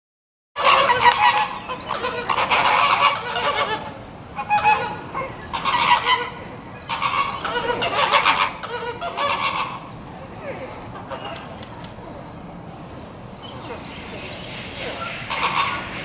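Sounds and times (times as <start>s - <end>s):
flamingos honking chorus: 0.6s - 11.6s, 13.5s - 16.0s.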